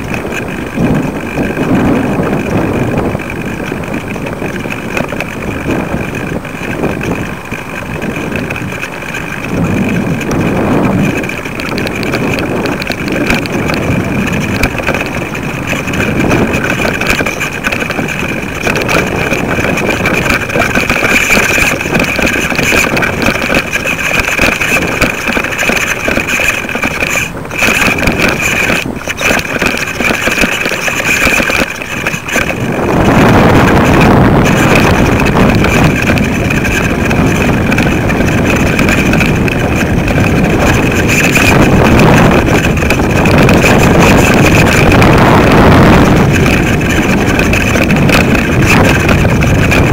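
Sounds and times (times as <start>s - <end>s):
steady high whine: 0.0s - 49.9s
wind buffeting microphone: 0.0s - 49.9s.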